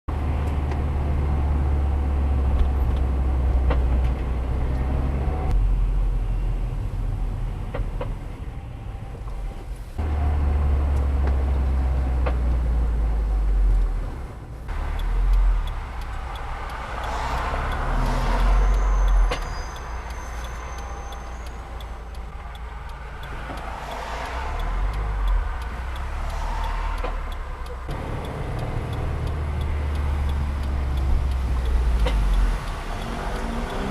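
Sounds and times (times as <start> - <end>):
car engine low rumble: 0.1 - 33.9
brake clicks and clunks: 2.4 - 5.6, 9.1 - 33.9.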